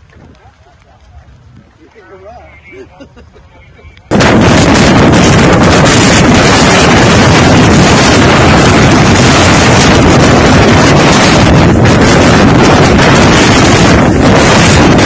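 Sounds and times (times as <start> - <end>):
wind blasting microphone: 0.0 - 15.0.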